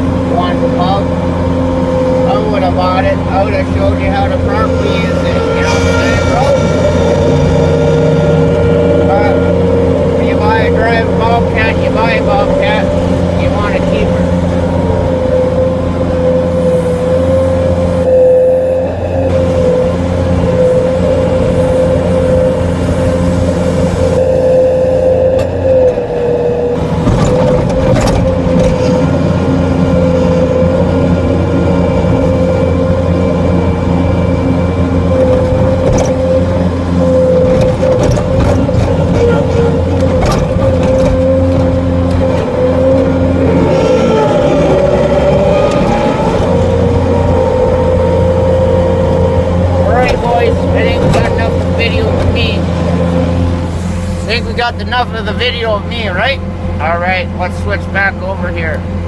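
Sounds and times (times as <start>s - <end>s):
loader engine running: 0.0s - 59.0s
steady whine: 0.0s - 59.0s.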